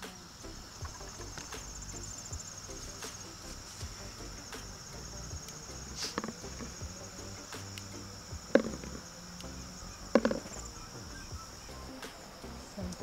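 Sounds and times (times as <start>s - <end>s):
insect chorus trilling: 0.0s - 13.0s.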